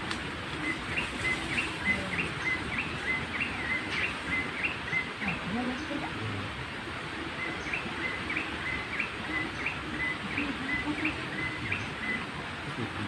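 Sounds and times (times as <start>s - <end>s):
waterhen calls: 0.2s - 13.0s.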